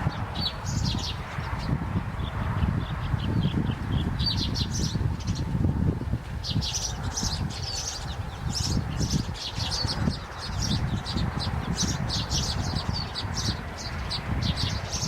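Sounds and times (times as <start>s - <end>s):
small birds chirping: 0.0s - 5.6s, 6.4s - 15.0s.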